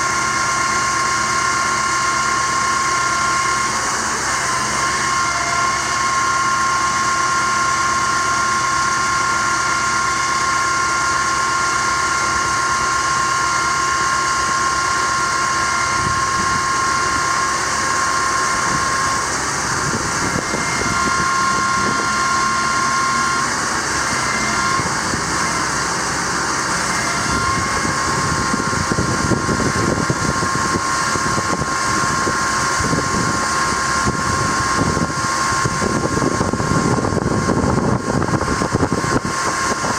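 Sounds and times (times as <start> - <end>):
diesel engine running: 0.0 - 39.9
hydraulic pump whine: 0.0 - 39.9.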